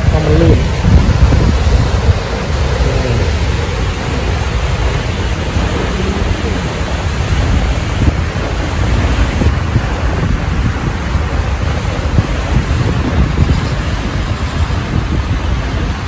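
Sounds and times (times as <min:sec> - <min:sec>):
waterfall roaring: 0:00.0 - 0:16.0
wind buffeting microphone: 0:00.0 - 0:16.0.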